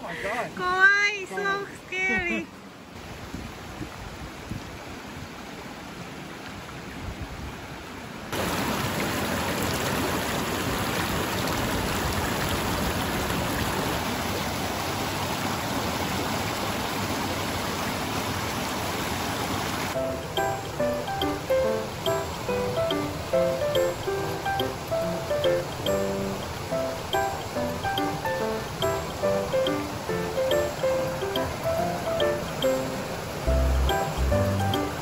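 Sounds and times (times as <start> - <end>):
creek rushing over stones: 0.0 - 35.0.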